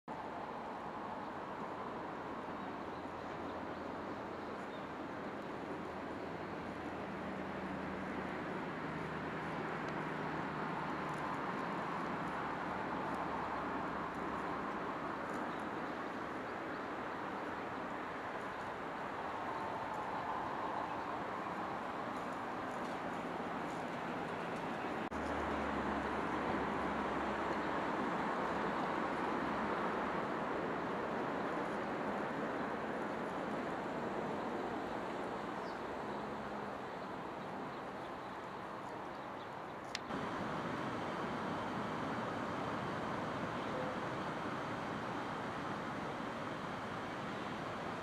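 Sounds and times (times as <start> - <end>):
river water flowing over stones: 0.1 - 38.7, 40.1 - 48.0.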